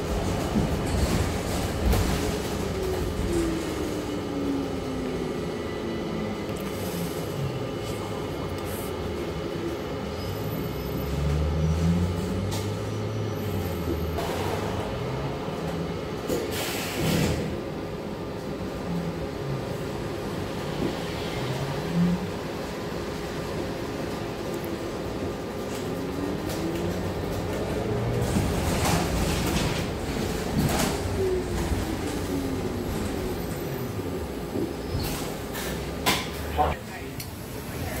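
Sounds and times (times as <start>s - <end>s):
bus cabin hum: 0.0s - 21.0s, 21.7s - 38.0s.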